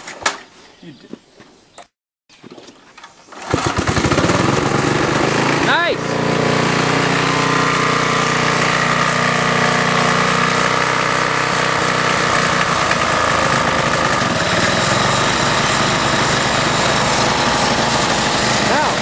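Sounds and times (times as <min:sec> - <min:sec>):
lawnmower engine running: 0:03.3 - 0:19.0.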